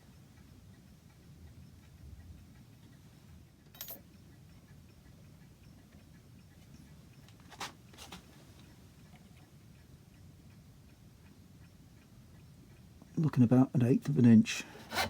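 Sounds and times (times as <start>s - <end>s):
clock ticking: 0.0s - 8.0s, 8.6s - 15.0s.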